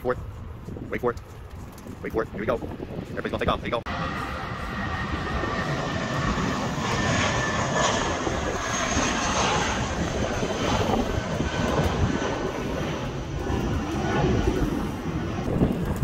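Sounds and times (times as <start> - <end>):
airliner engines taking off: 0.0 - 16.0.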